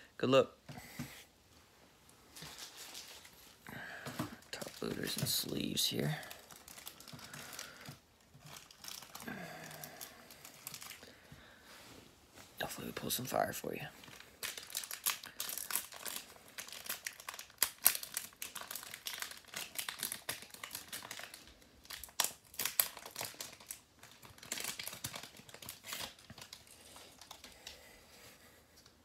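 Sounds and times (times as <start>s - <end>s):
wrapper crinkling and tearing: 2.3s - 3.6s, 4.3s - 11.2s, 12.7s - 27.8s.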